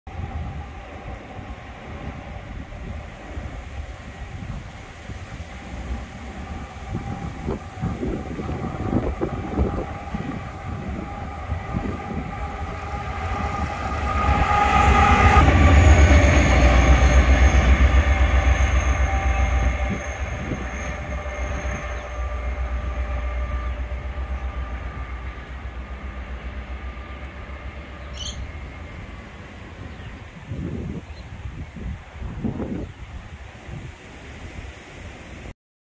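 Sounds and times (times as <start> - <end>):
locomotives rumbling past: 0.1 - 35.5.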